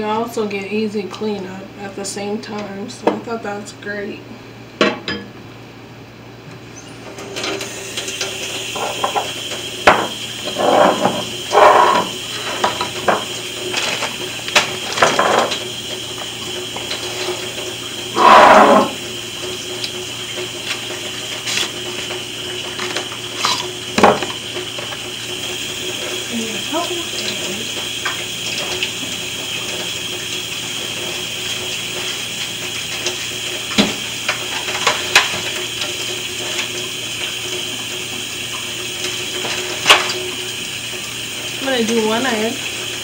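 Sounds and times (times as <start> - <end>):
faucet water running: 6.7 - 43.0.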